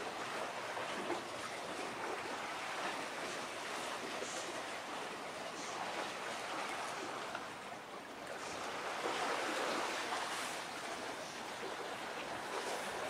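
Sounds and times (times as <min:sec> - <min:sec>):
sea waves: 0:00.0 - 0:13.0
wind: 0:00.0 - 0:13.0.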